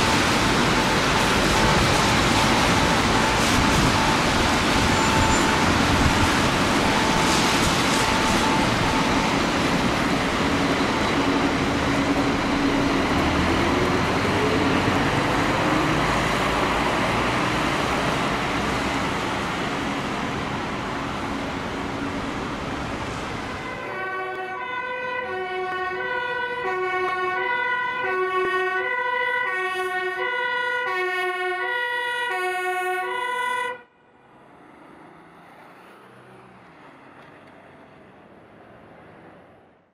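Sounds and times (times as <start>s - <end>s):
fire engine siren wailing: 0.0s - 37.1s
engine and road noise: 0.0s - 39.9s.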